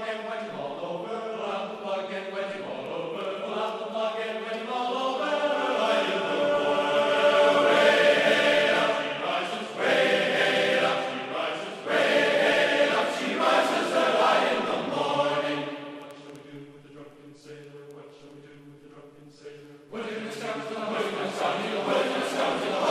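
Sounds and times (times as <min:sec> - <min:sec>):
choir chanting held chords: 0:00.0 - 0:17.7, 0:19.4 - 0:22.9.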